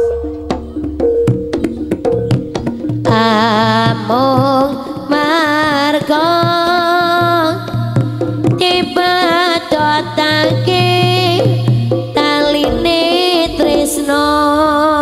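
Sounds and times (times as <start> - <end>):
gamelan music: 0.0 - 7.1, 7.7 - 15.0.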